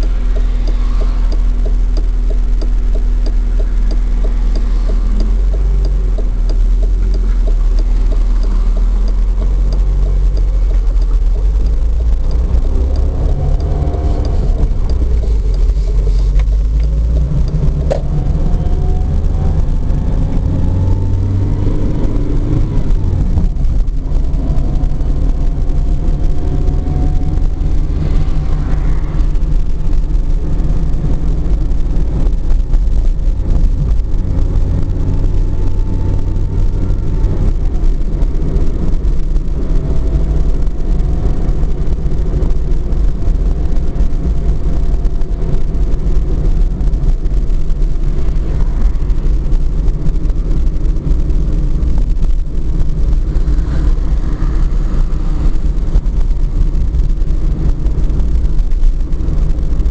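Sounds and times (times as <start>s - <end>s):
road noise inside car: 0.0s - 59.9s.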